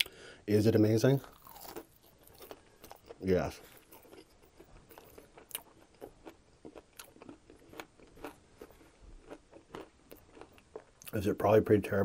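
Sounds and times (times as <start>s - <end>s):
chewing crunchy food: 1.2s - 11.2s.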